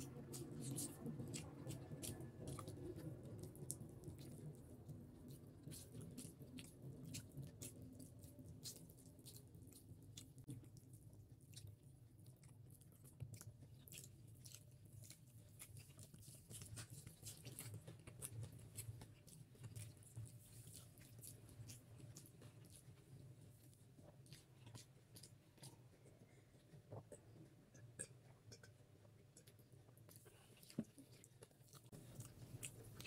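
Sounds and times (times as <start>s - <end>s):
close chewing: 0.0s - 33.0s.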